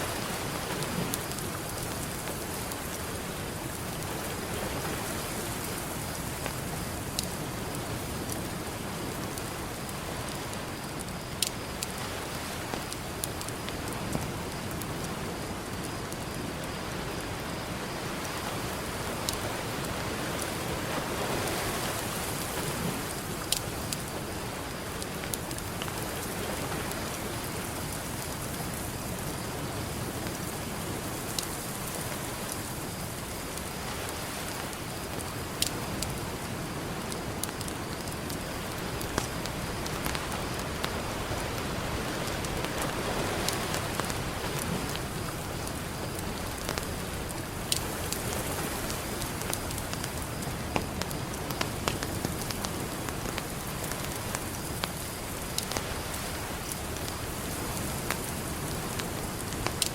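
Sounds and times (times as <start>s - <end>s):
campfire crackling and popping: 0.0s - 59.9s
ocean surf: 0.0s - 59.9s.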